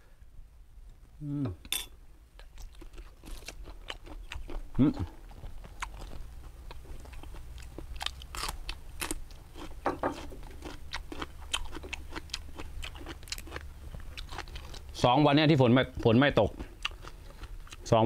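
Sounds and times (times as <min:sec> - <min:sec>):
man crunching bitter melon: 0:02.4 - 0:15.0, 0:15.8 - 0:18.0.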